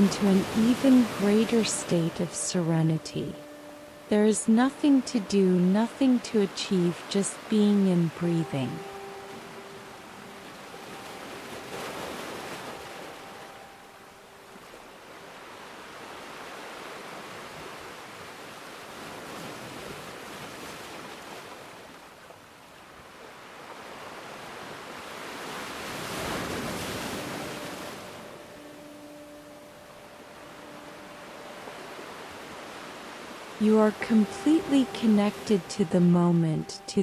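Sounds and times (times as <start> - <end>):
waves breaking on shore: 0.0 - 37.0.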